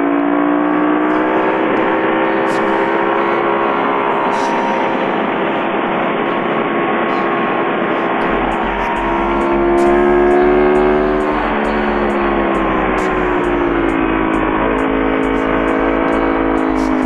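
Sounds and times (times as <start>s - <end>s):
motorcycle engine revving: 0.0s - 6.4s, 8.2s - 17.0s.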